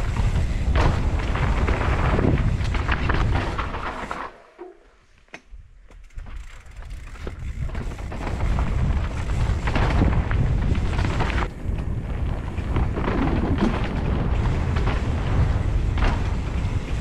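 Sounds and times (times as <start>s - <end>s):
wind buffeting microphone: 0.0s - 3.6s, 6.1s - 17.0s
bike rattling over bumps: 0.0s - 4.4s, 5.5s - 17.0s
tyre noise on dirt: 0.0s - 17.0s.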